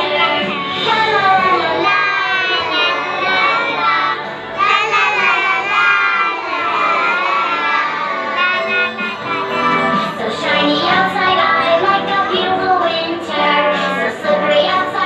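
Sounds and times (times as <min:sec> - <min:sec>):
child singing: 0:00.0 - 0:15.0
instrumental backing music: 0:00.0 - 0:15.0.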